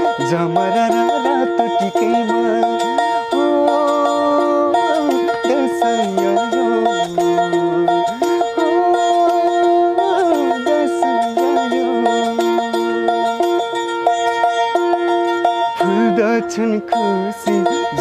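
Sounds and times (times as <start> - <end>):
bowed fiddle melody: 0.0 - 18.0
person singing folk song: 0.0 - 18.0.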